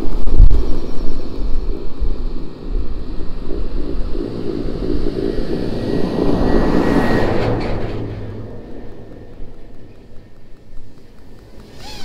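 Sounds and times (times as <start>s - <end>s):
quadcopter motors and propellers: 0.0s - 12.0s.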